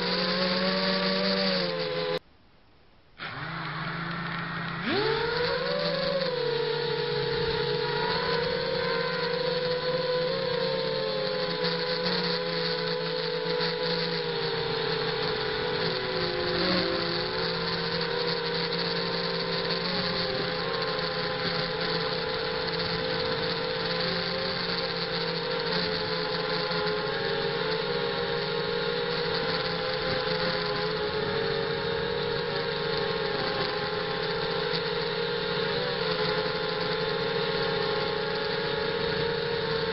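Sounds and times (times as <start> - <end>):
quadcopter motors whining: 0.0 - 2.2, 3.2 - 39.9.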